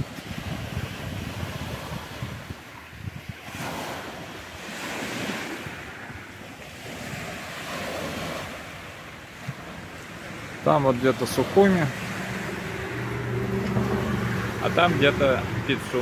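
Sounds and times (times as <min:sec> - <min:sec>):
waves washing on pebble beach: 0:00.0 - 0:16.0
wind buffeting microphone: 0:00.0 - 0:16.0.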